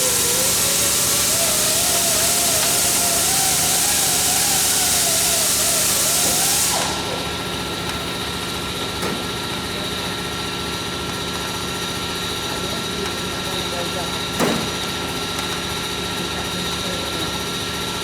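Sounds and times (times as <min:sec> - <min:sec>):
loud hiss with motor tone: 0:00.0 - 0:15.0
mechanical hum with high whine: 0:00.0 - 0:18.0.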